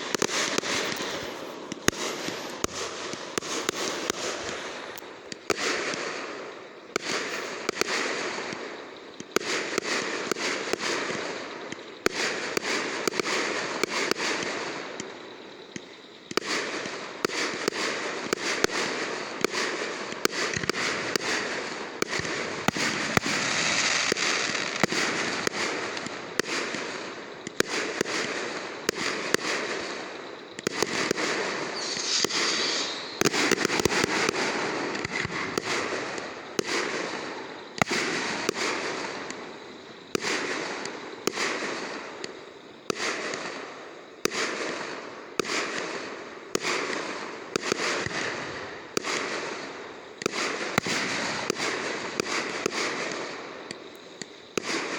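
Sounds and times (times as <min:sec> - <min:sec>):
fireworks bangs and pops: 0:00.0 - 0:54.9
fireworks hissing crackle: 0:00.0 - 0:54.9.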